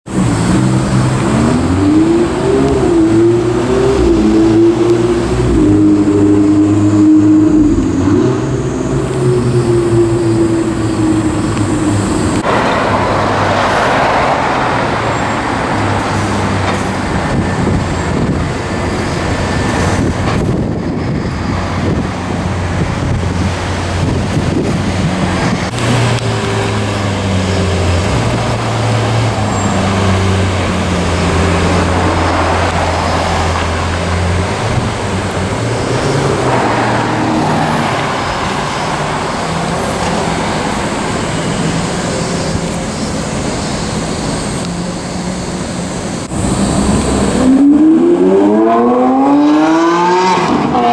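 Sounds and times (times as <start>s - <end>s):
vehicle engines idling: 0.0s - 49.6s
vehicle passing: 0.1s - 42.1s, 46.2s - 50.9s
road hiss: 0.1s - 50.5s.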